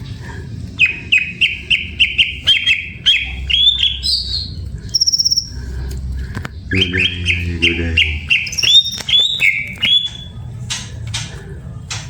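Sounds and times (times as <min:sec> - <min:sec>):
bird chirping and trilling: 0:00.7 - 0:11.3.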